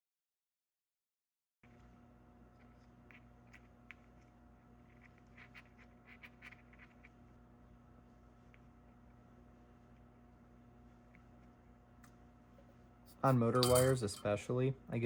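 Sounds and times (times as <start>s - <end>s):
faint electrical hum: 1.6s - 15.0s.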